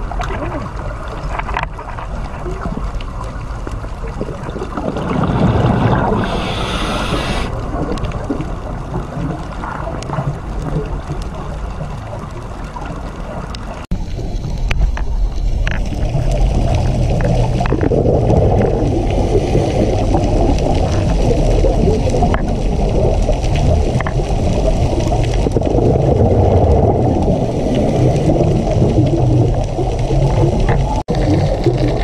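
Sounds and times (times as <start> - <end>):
underwater rumble and wash: 0.0 - 32.0.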